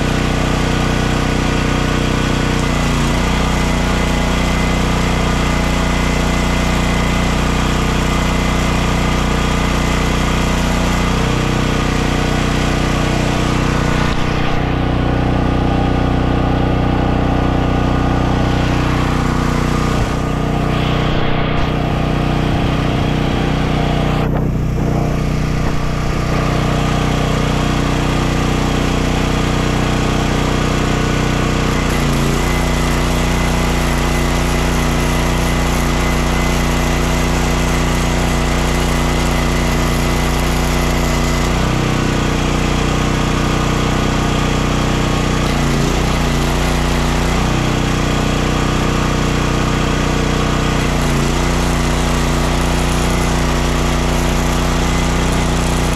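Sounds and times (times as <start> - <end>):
welding arc crackling: 0.0 - 15.4, 17.8 - 55.9
generator engine running: 0.0 - 55.9.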